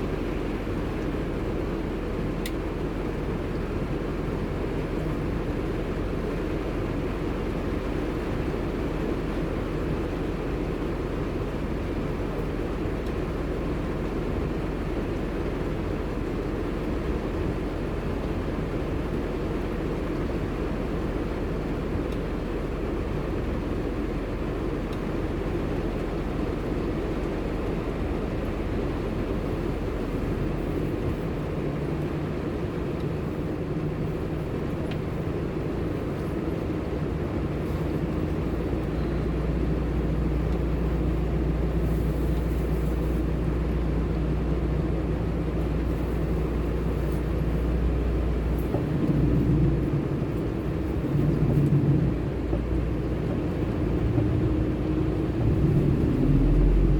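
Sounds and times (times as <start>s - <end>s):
car engine rumble: 0.0s - 56.9s
road noise inside car: 0.0s - 56.9s.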